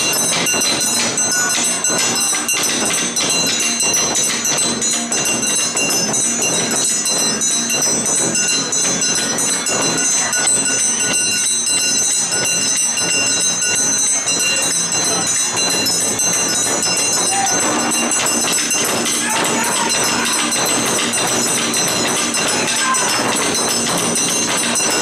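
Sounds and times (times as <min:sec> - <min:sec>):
taiko drums beating: 0:00.0 - 0:25.0.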